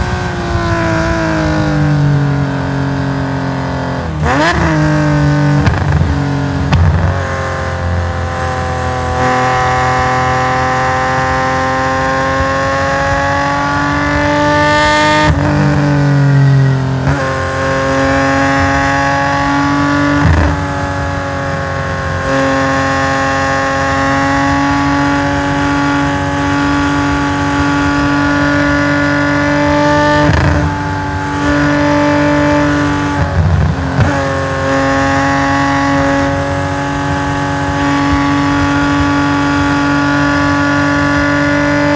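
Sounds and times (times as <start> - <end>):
race car engine accelerating: 0.0 - 41.9.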